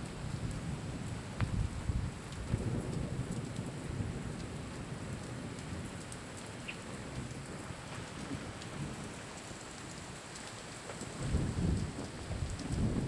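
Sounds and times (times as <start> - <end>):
rain falling on pavement: 0.0 - 13.0.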